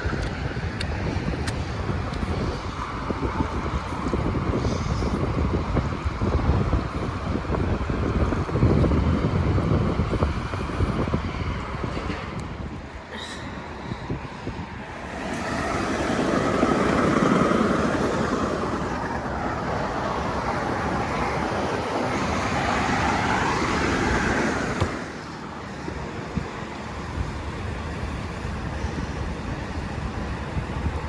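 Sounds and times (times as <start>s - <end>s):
road vehicle rushing: 0.0s - 31.0s.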